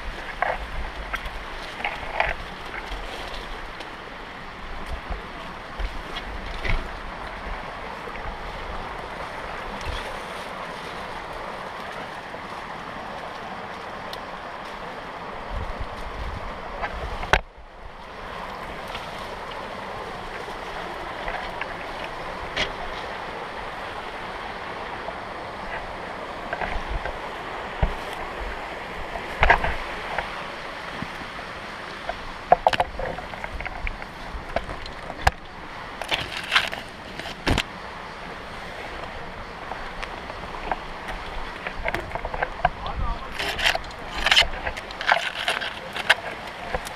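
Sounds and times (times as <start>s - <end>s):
running water rushing: 0.0s - 46.9s.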